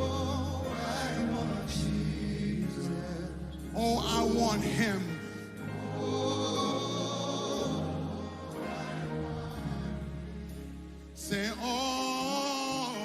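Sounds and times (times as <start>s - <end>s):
bass: 0.0s - 13.0s
congregation singing: 0.0s - 13.0s
keyboard: 0.0s - 13.0s.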